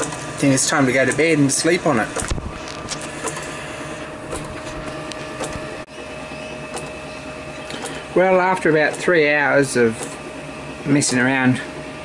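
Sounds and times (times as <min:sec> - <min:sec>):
lathe running with whine: 0:00.0 - 0:12.0.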